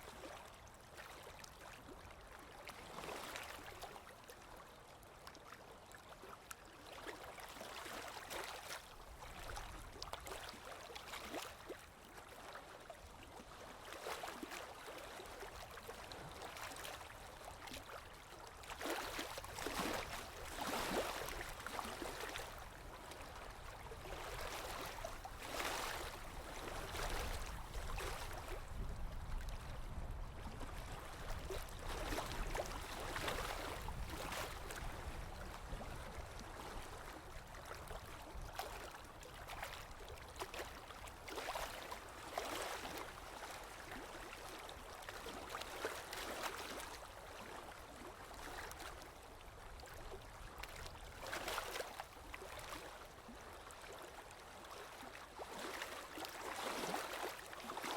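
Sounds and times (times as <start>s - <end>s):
small waves lapping: 0.0s - 57.9s.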